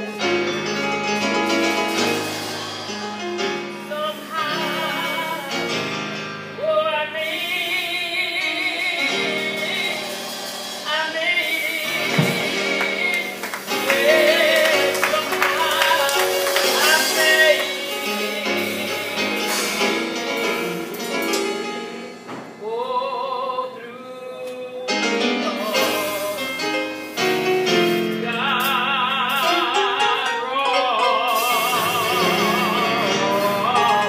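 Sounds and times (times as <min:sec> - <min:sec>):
keyboard accompaniment: 0:00.0 - 0:34.0
solo singer with vibrato: 0:02.9 - 0:34.0.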